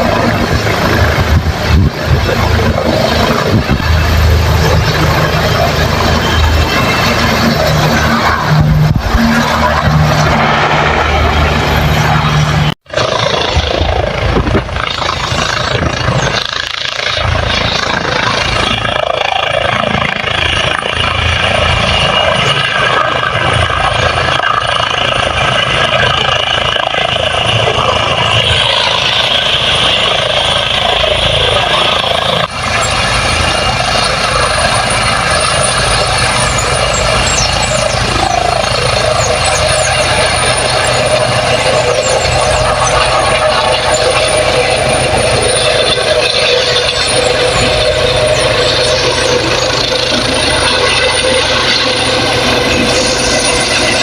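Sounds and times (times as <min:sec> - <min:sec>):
helicopter turbine and rotor: 0:00.0 - 0:54.0
high turbine whine: 0:00.0 - 0:54.0.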